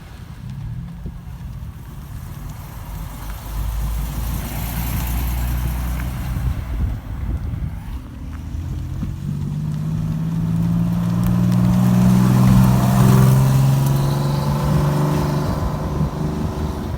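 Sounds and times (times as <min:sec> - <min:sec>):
car driving past: 0:00.0 - 0:16.9.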